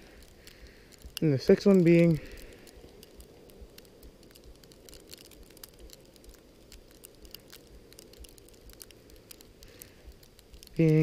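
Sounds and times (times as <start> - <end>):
snow pattering on microphone: 0.0 - 11.0.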